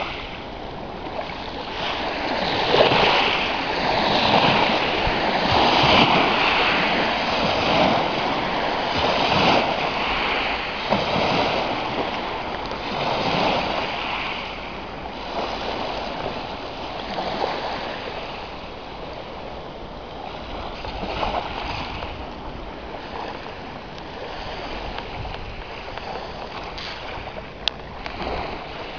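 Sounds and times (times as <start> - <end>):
waves washing onto pebble shore: 0.0 - 28.9.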